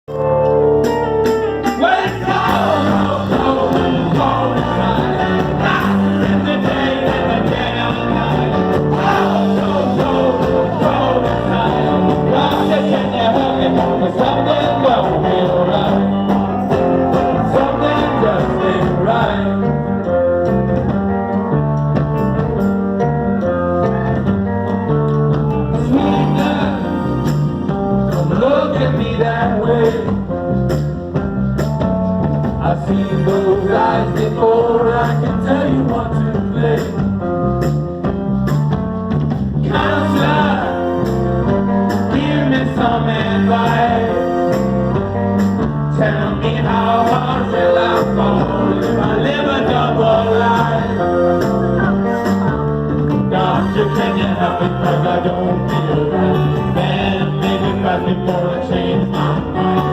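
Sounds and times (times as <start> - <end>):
live rock band playing: 0.1 - 59.9.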